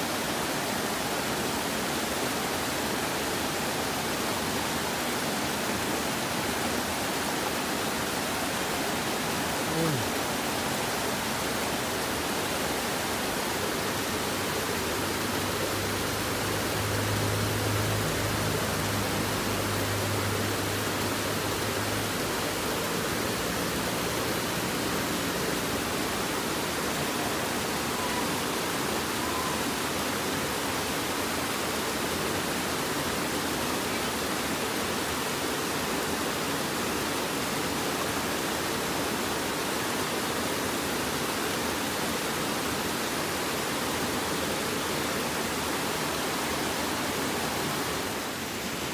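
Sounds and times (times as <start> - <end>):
river water rushing over rocks: 0.0 - 48.9.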